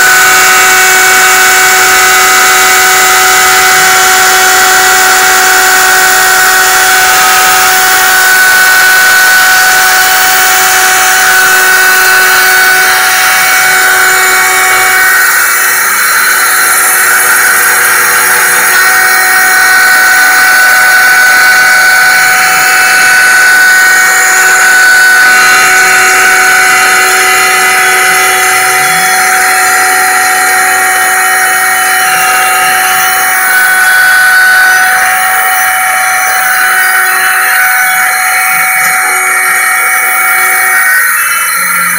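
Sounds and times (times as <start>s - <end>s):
router spindle whine: 0.0s - 41.9s.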